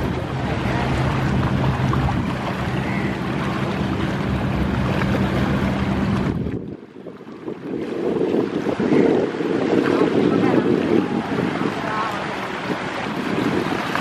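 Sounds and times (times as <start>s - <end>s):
boat engine humming: 0.0s - 14.0s
rush of wind and water: 0.0s - 14.0s
wind buffeting microphone: 0.0s - 14.0s.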